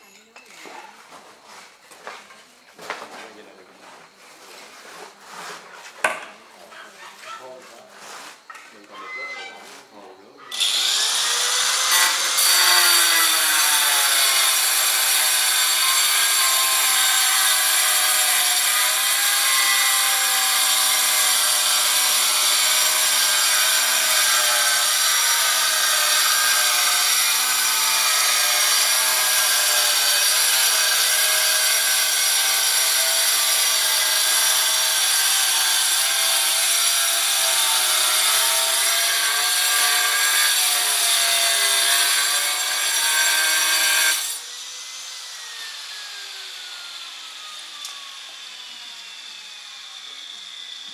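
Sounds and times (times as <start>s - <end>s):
angle grinder cutting tile: 4.9s - 50.9s.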